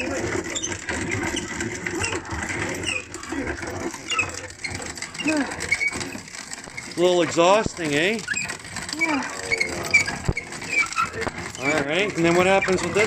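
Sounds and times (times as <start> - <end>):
grain mill grinding corn: 0.0 - 13.0.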